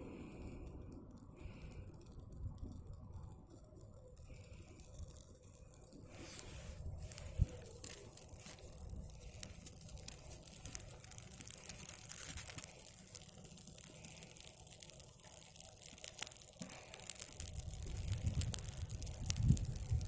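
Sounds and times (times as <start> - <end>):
birch bark and twigs crackling: 0.0 - 20.0.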